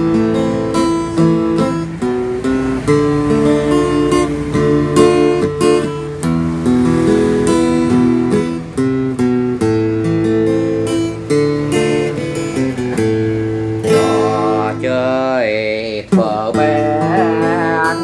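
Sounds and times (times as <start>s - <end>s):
acoustic guitar picked melody: 0.0s - 18.0s.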